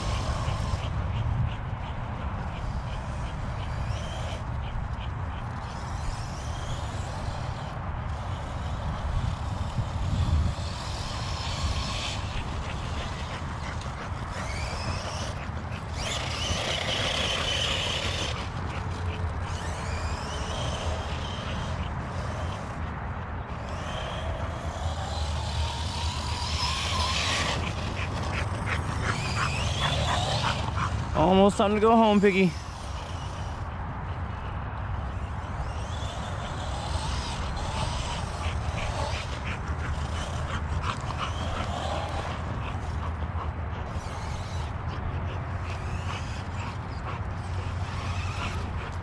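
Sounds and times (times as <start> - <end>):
rc truck motor whining: 0.0 - 49.0.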